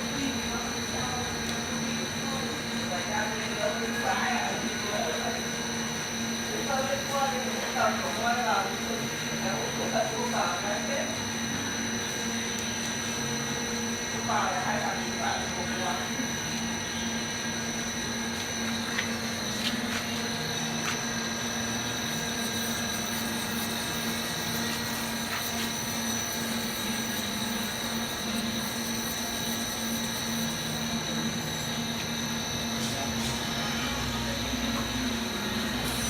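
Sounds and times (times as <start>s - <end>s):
lathe machine hum with high whine: 0.0s - 36.0s.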